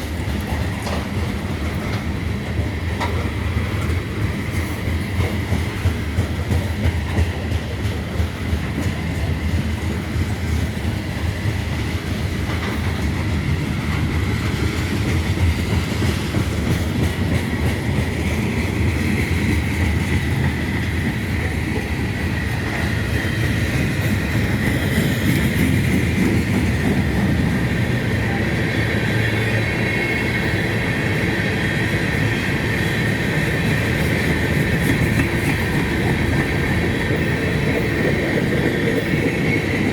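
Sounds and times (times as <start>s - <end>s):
train wheels rumbling and clacking: 0.0s - 39.9s.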